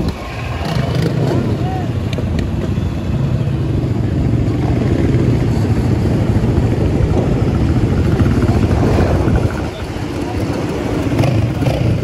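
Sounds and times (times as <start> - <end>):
quad engines running: 0.0 - 12.0.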